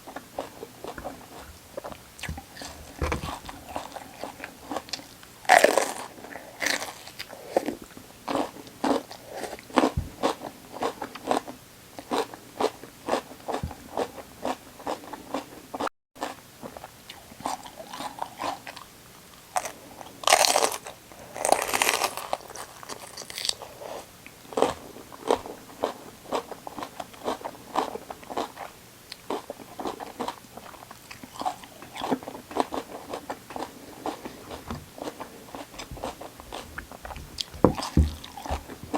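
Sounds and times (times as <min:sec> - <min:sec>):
crunchy vegetable chewing: 0:00.0 - 0:38.9.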